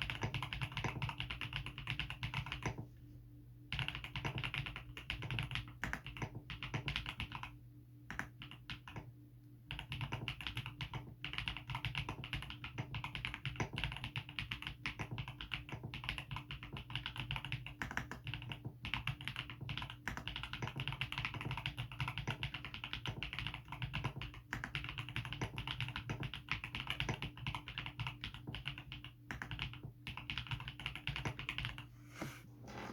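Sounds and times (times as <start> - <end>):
mechanical keyboard typing: 0.0 - 2.8, 3.7 - 7.5, 8.1 - 9.1, 9.7 - 31.8.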